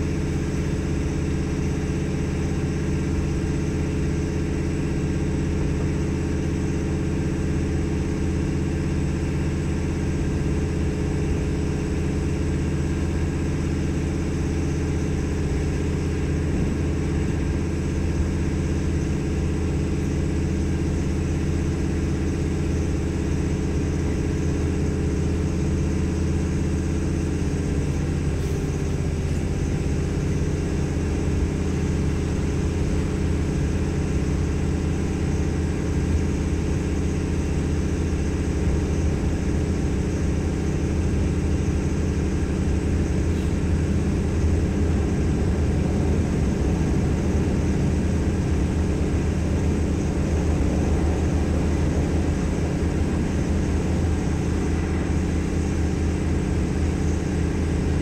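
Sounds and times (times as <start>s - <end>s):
railcar diesel engine drone: 0.0s - 58.0s.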